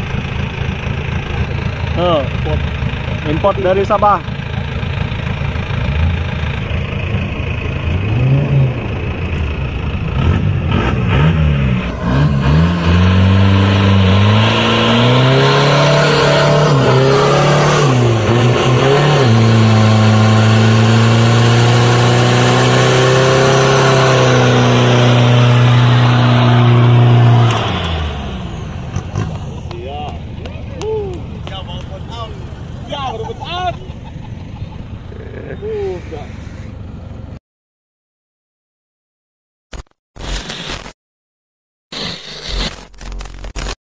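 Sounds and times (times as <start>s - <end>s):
diesel engine revving: 0.0s - 37.4s.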